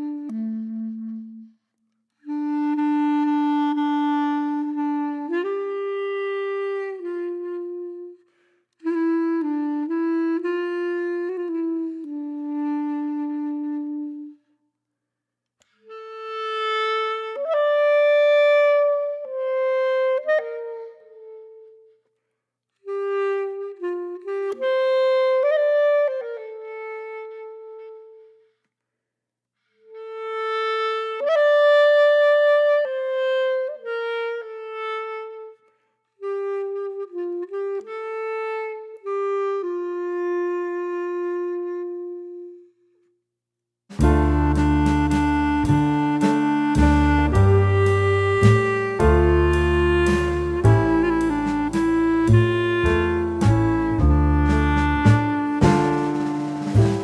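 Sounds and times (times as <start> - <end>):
wind instrument melody: 0.0 - 14.5, 15.7 - 22.0, 22.8 - 28.5, 29.9 - 42.8, 43.9 - 57.0.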